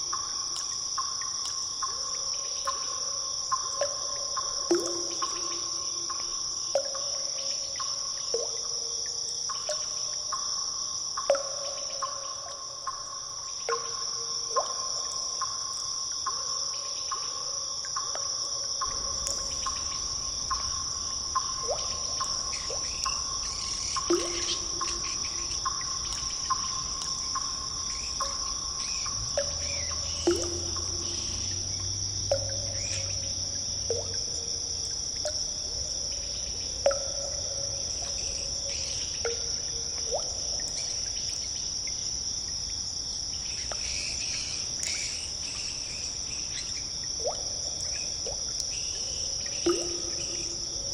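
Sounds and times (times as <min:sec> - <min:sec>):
water drops plinking into pools: 0:00.0 - 0:50.9.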